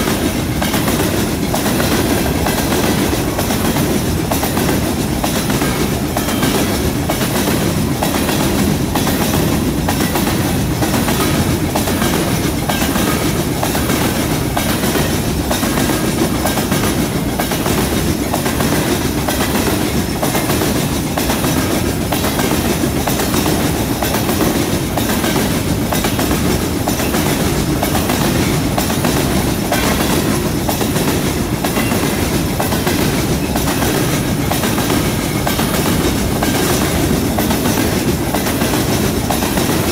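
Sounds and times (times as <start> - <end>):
train wheels rumbling on rails: 0.0 - 39.9
wheels clickety-clack over rail joints: 0.0 - 39.9.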